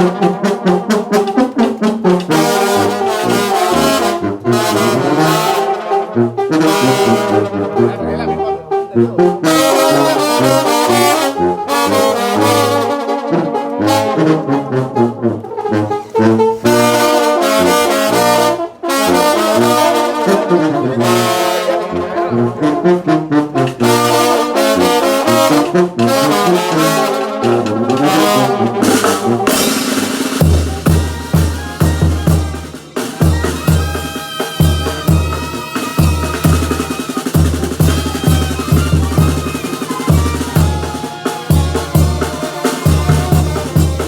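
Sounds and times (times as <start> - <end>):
trombones and trumpets melody: 0.0 - 44.0.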